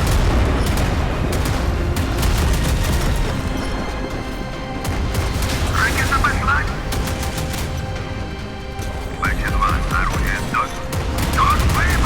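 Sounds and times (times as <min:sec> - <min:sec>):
background music: 0:00.0 - 0:12.0
rapid gunfire with deep booms: 0:00.0 - 0:12.0.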